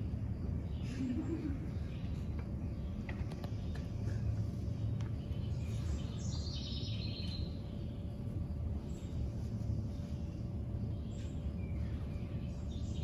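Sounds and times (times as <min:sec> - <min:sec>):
low room rumble: 0:00.0 - 0:13.0
bird chirping trill: 0:01.8 - 0:13.0.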